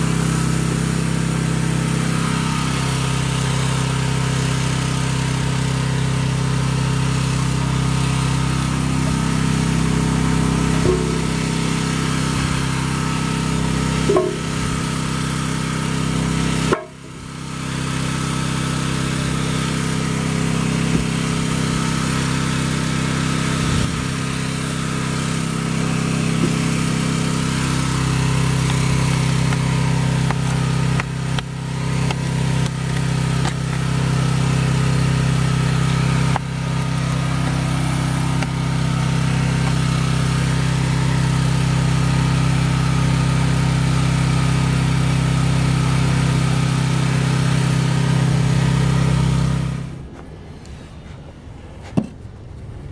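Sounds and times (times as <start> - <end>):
hydraulic pump engine running: 0.0 - 52.9.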